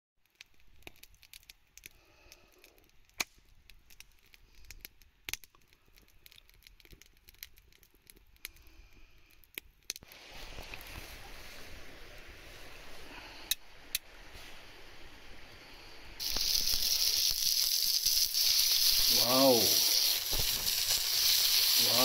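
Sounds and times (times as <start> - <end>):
wood fire crackling: 0.2 - 22.0.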